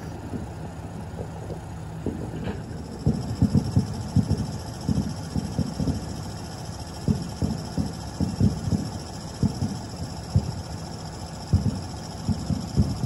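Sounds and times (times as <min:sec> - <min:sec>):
diesel railcar idling: 0:00.0 - 0:13.0.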